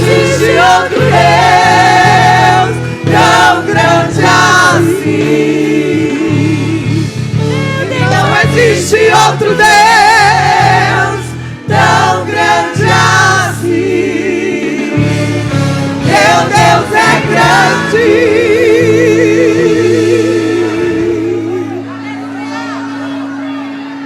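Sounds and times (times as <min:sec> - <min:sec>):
bass line: 0:00.0 - 0:21.9
gospel vocal group singing: 0:00.0 - 0:21.9
band accompaniment: 0:00.0 - 0:24.0.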